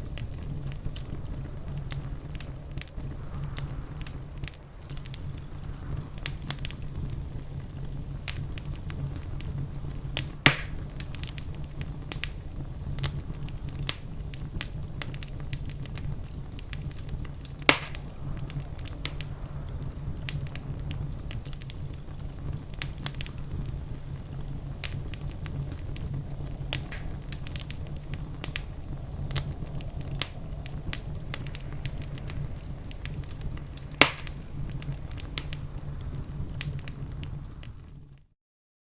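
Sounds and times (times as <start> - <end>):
loud fire pops: 0.0 - 38.2
fire crackling: 0.0 - 38.3
low steady rumble: 0.0 - 38.3.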